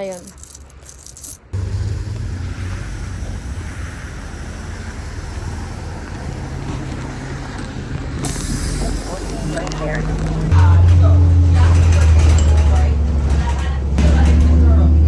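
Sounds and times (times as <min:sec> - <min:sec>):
road noise: 0:00.0 - 0:15.0
bus engine humming: 0:01.2 - 0:15.0.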